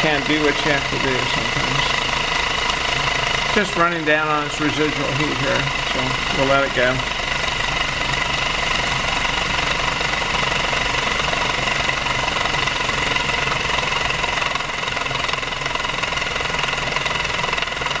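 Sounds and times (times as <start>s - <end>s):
stirling engine clattering: 0.0s - 18.0s.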